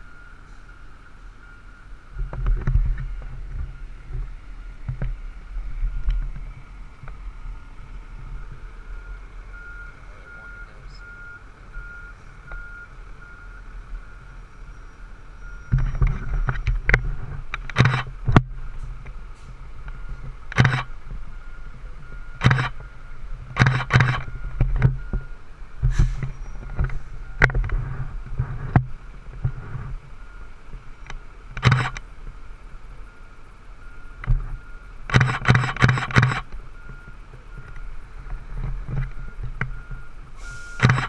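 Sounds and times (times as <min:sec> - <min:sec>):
faint reversing alarm beeping: 0:00.0 - 0:41.0
large vehicle engine rumbling: 0:00.0 - 0:41.0.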